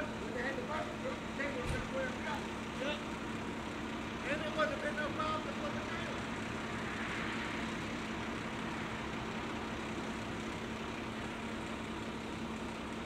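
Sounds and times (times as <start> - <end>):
heavy equipment engine running: 0.0 - 13.0.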